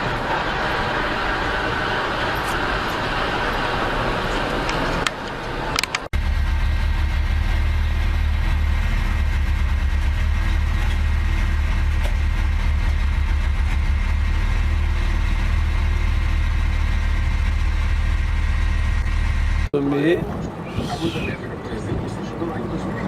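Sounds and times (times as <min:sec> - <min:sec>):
vehicle engine droning: 0:00.0 - 0:20.6.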